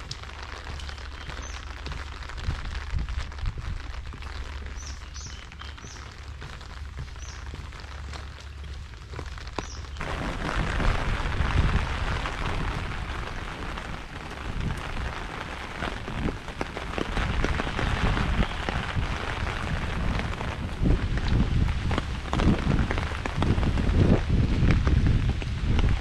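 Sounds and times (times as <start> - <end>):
rain on a wet road: 0.0 - 26.0.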